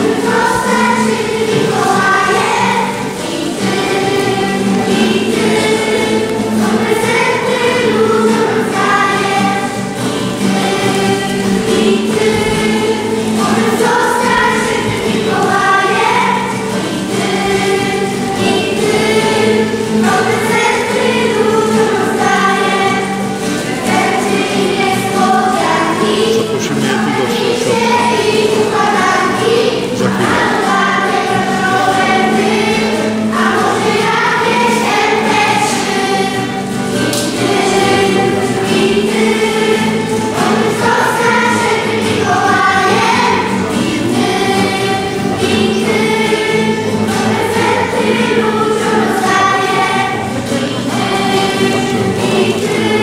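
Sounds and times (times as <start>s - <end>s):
acoustic guitar: 0.0s - 53.0s
children's choir singing: 0.0s - 53.0s.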